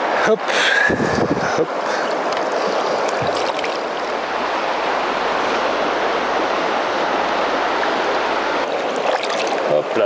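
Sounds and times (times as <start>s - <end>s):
river rushing: 0.0s - 10.0s.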